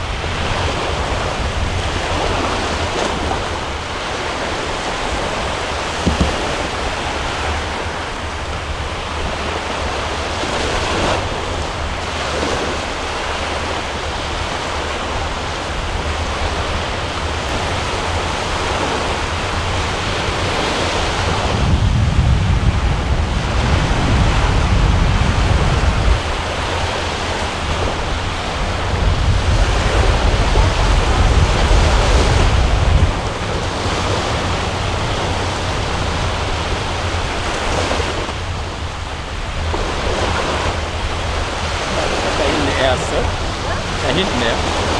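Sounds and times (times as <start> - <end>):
sea waves and surf: 0.0 - 44.9
wind on microphone: 0.0 - 44.9.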